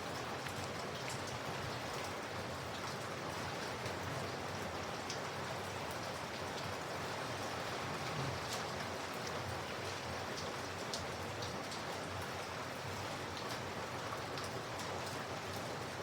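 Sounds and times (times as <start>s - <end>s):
raindrops ticking on a surface: 0.0s - 16.0s
steady rain: 0.0s - 16.0s.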